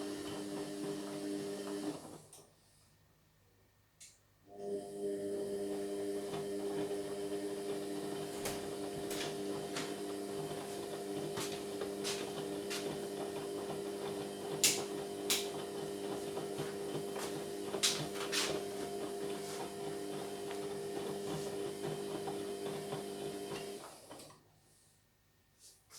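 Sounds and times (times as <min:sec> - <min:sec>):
washing machine hum: 0:00.0 - 0:02.3, 0:04.5 - 0:24.4.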